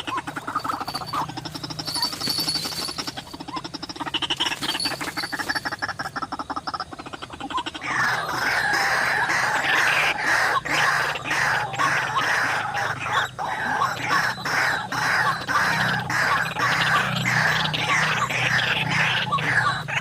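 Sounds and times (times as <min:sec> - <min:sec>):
harsh bird squawking: 0:00.0 - 0:20.0
waterhen croaking calls: 0:00.0 - 0:20.0.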